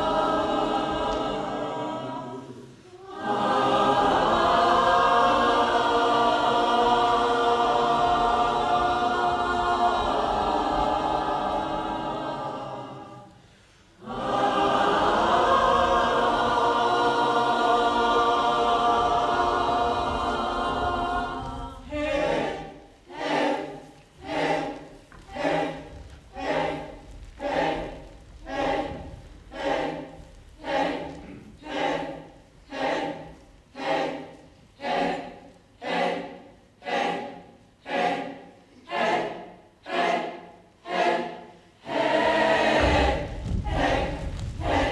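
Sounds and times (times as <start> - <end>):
choir singing held chords: 0.0 - 44.9
choir singing rhythmic pulses: 0.0 - 44.9.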